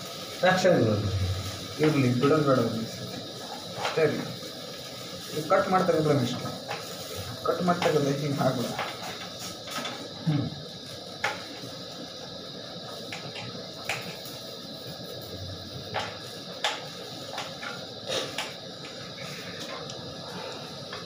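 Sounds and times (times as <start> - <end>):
frying hiss: 0.0 - 21.0.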